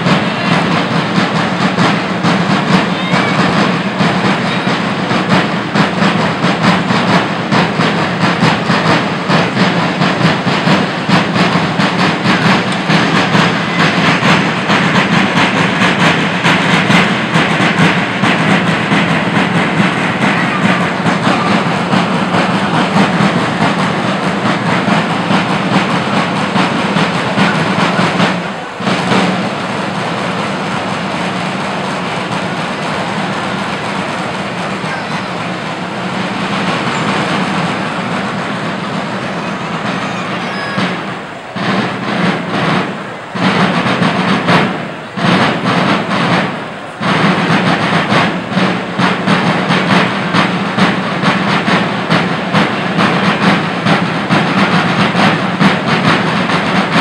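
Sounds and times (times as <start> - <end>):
large drums playing fast rhythm: 0.0 - 57.0.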